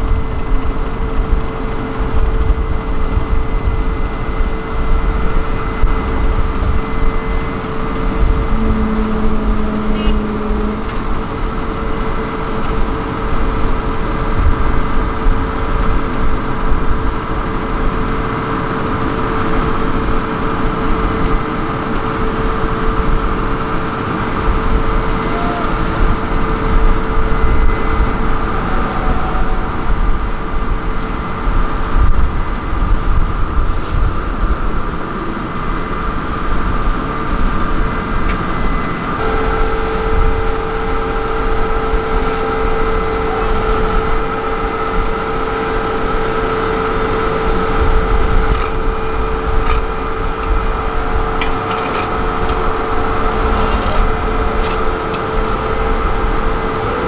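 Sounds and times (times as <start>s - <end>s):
diesel machine rumbling: 0.0s - 57.0s
steady hum: 0.0s - 57.0s.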